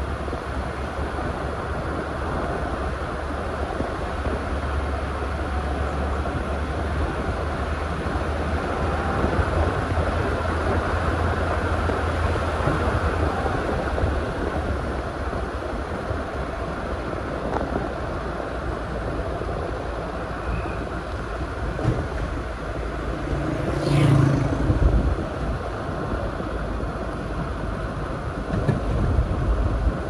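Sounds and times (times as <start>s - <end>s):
tyre and engine noise: 0.0s - 30.0s
vehicle driving on paved road: 0.0s - 30.0s.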